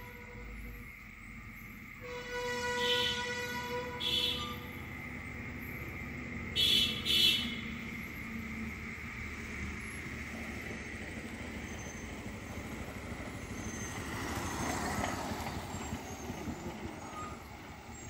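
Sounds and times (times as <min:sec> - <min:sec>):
lorry engine rumble: 0:00.0 - 0:18.0.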